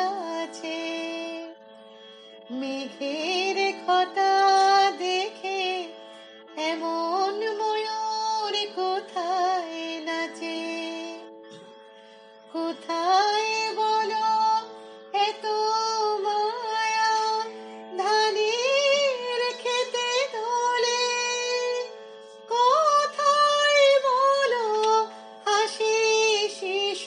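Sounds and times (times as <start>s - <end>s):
woman singing slow song: 0.0s - 1.6s, 2.5s - 5.9s, 6.6s - 11.3s, 12.5s - 21.9s, 22.5s - 27.0s.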